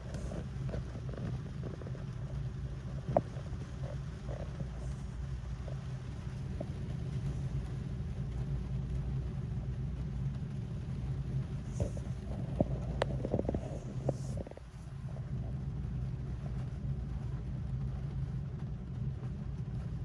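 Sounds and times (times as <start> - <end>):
rain rumble inside car: 0.0 - 20.0.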